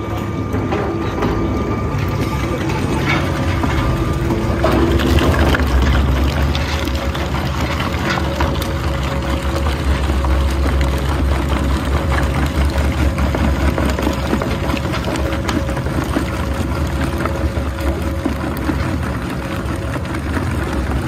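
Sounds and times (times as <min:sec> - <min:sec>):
shredder motor drone: 0:00.0 - 0:21.0.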